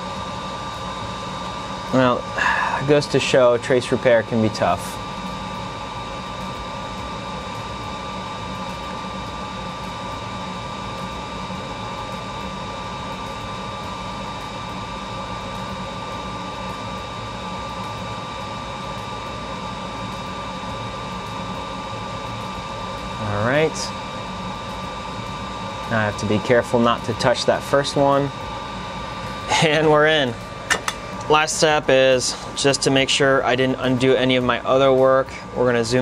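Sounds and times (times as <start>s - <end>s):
fan whirring: 0.0s - 36.0s.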